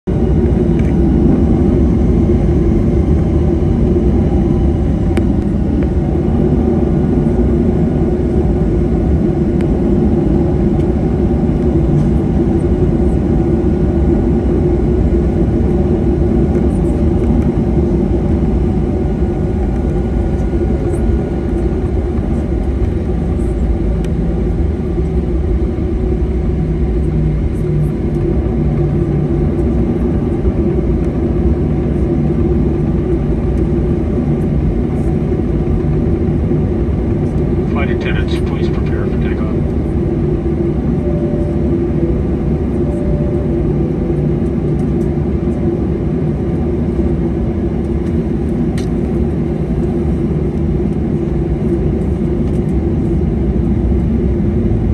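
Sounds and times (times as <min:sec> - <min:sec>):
jet engines rumbling in cabin: 0:00.0 - 0:54.9.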